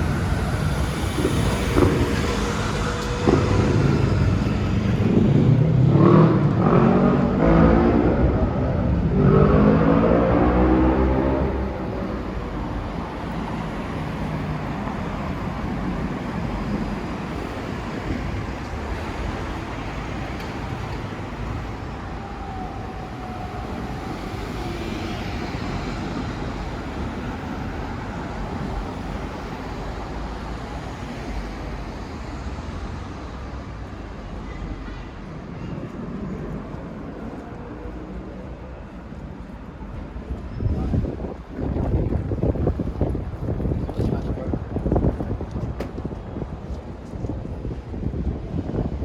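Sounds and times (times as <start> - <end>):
city road traffic: 0.0 - 49.0.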